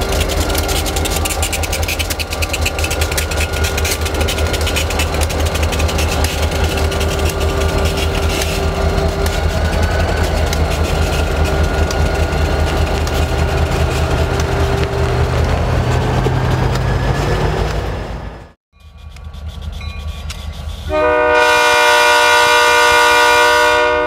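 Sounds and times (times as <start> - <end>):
diesel locomotive engine throb: 0.0 - 24.0
train rattling: 0.0 - 24.0.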